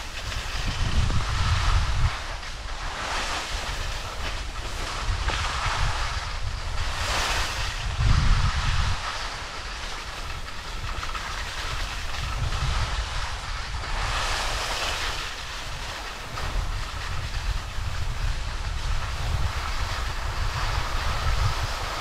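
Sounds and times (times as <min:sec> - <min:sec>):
skis sliding on snow: 0:00.0 - 0:22.0
wind on microphone: 0:00.0 - 0:22.0.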